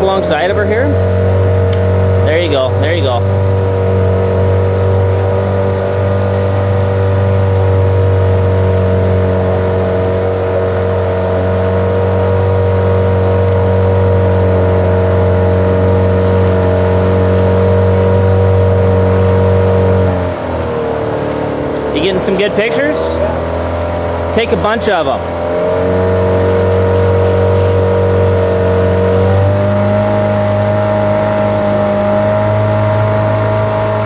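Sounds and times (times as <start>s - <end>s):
boat motor running: 0.0s - 34.0s.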